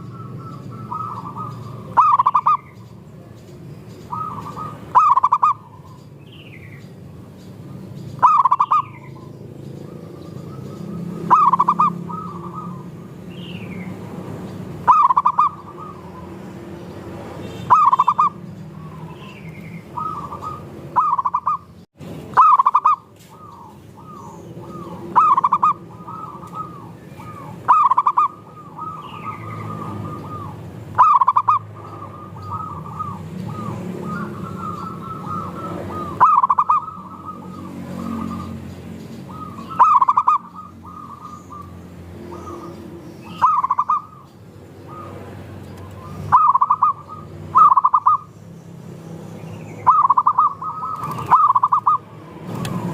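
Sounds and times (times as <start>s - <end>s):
doves cooing: 0.0s - 3.1s, 4.0s - 6.2s, 7.2s - 16.7s, 17.7s - 21.7s, 22.3s - 48.3s, 49.8s - 52.9s.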